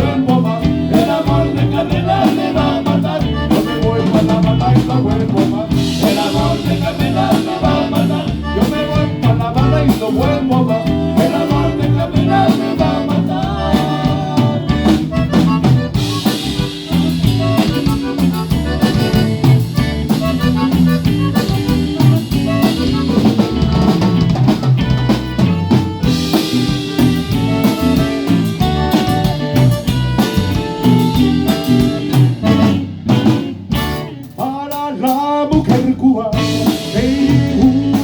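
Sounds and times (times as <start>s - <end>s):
drums keeping a steady beat: 0.0s - 38.0s
live band playing cumbia: 0.0s - 38.0s.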